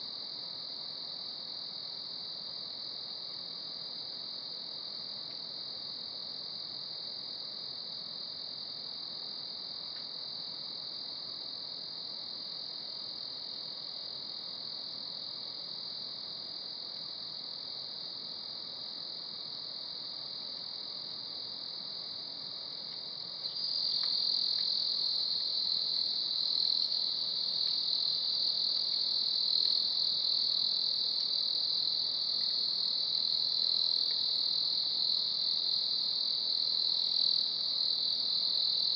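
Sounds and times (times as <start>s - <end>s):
crickets and night insects chirping: 0.0s - 38.9s.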